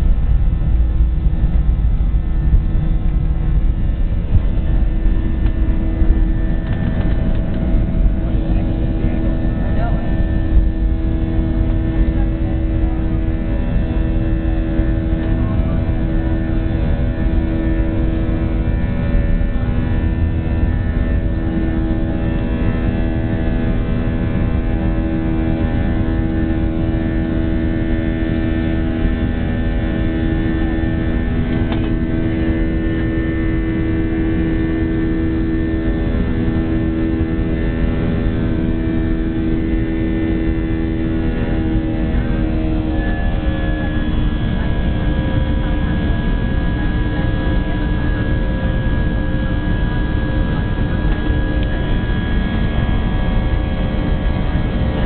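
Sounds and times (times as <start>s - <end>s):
jet engines droning: 0.0s - 55.0s
low rumble: 0.0s - 55.0s.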